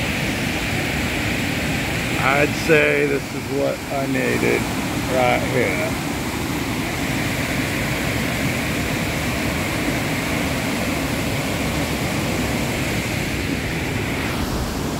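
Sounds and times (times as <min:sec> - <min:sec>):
waterfall roaring: 0:00.0 - 0:14.9.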